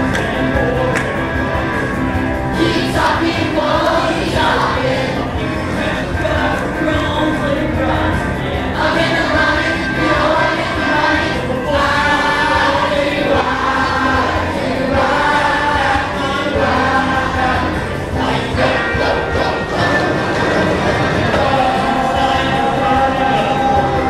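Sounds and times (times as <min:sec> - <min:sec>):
group of voices singing: 0:00.0 - 0:24.0
musical accompaniment: 0:00.0 - 0:24.0.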